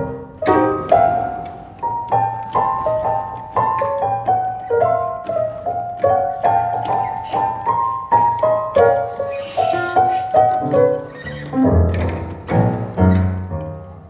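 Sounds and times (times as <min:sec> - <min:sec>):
slow solo piano melody: 0:00.0 - 0:14.0.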